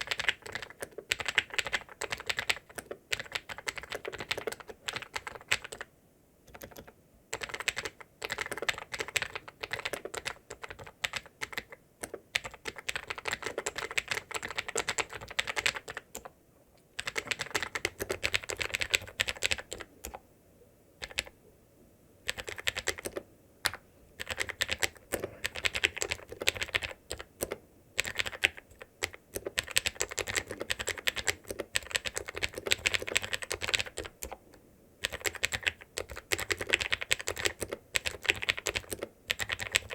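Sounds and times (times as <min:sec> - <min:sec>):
typing on mechanical keyboard: 0:00.0 - 0:05.9, 0:06.5 - 0:16.3, 0:17.0 - 0:20.2, 0:21.0 - 0:21.3, 0:22.2 - 0:39.9.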